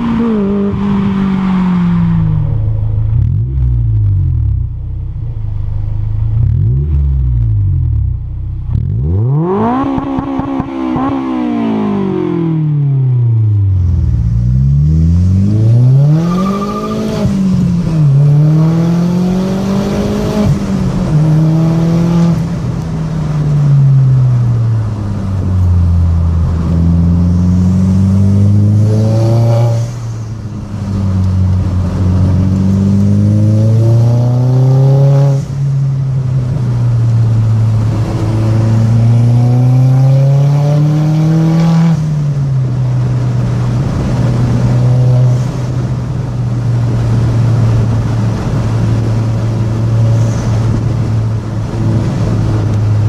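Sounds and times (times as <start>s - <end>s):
sports car engine revving: 0.0s - 24.2s, 24.8s - 53.0s.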